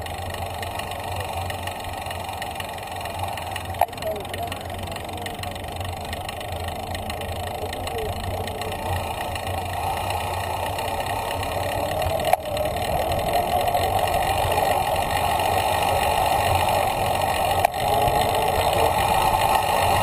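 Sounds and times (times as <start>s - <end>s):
wind and rolling noise of bicycle: 0.0s - 20.0s.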